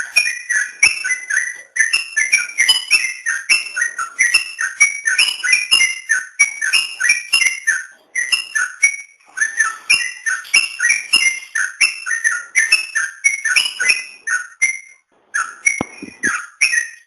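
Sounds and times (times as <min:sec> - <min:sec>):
bulbul singing bubbly whistles: 0:00.0 - 0:17.0.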